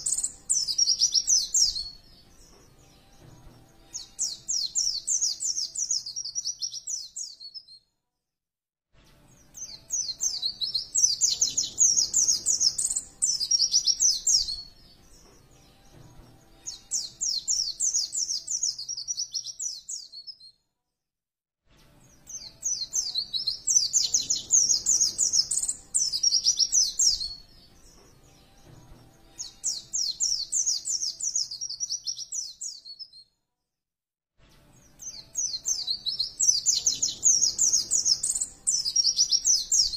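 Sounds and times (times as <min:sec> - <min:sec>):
bird twittering song: 0:00.0 - 0:07.8, 0:09.4 - 0:20.5, 0:22.2 - 0:33.2, 0:34.8 - 0:39.9.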